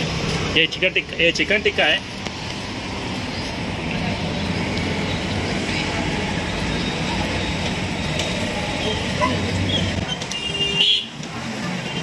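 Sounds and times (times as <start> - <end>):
street food cooking noise: 0.0 - 12.0
traffic: 0.0 - 12.0.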